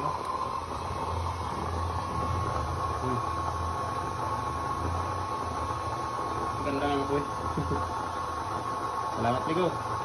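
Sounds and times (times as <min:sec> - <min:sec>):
burner flame roar: 0:00.0 - 0:10.0
thin steady tone: 0:00.0 - 0:10.0.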